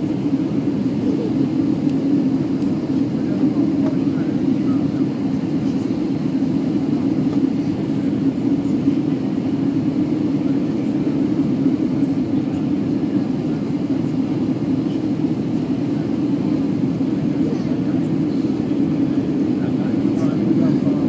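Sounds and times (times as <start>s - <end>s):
jet cabin engine hum: 0.0s - 21.0s.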